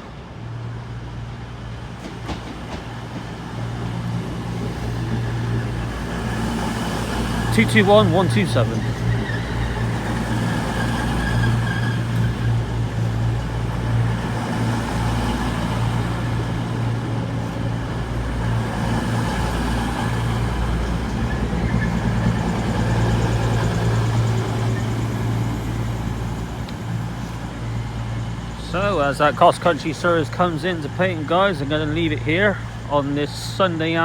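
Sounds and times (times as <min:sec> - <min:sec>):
diesel train engine humming: 0:00.0 - 0:34.0.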